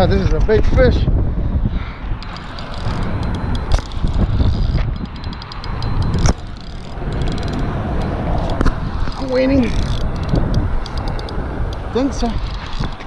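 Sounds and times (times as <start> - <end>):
wind rumbling on microphone: 0.0 - 13.0
fishing reel clicking: 2.2 - 13.0.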